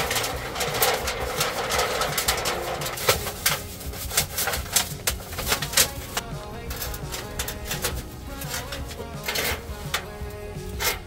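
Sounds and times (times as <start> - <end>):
sheet-metal pipe rattling and scraping: 0.0 - 11.0.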